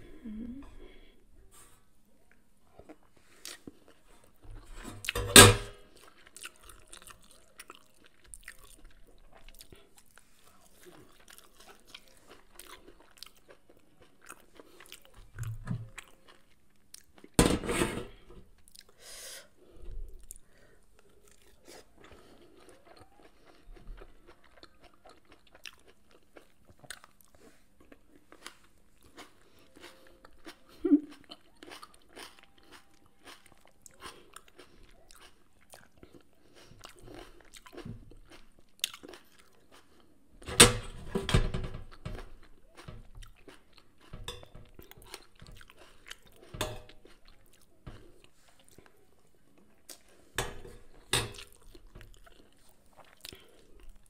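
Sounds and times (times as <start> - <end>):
person chewing: 2.7 - 5.2, 5.8 - 17.4, 18.6 - 19.0, 19.6 - 40.3, 41.9 - 54.0.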